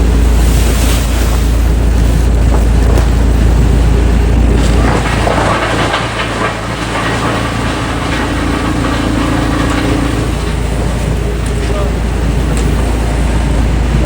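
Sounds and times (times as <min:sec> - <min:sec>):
heavy engine rumbling: 0:00.0 - 0:14.0
steady hum: 0:00.0 - 0:14.0.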